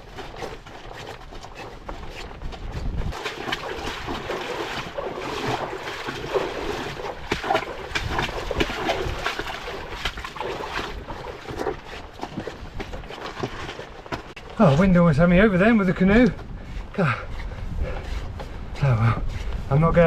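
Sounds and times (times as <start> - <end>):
canoe knocking and scraping: 0.0 - 20.0
footsteps on rough ground: 0.0 - 20.0
wind rumbling on microphone: 0.0 - 20.0.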